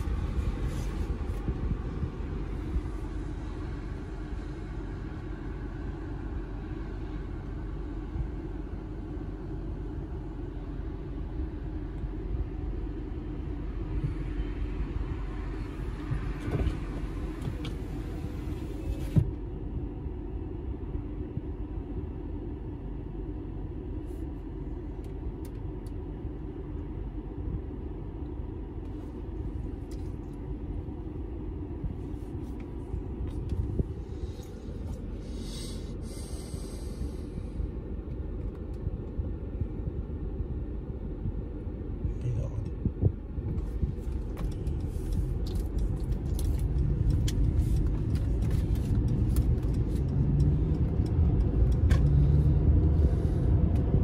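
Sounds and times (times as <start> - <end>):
road and engine noise in car: 0.0 - 54.0.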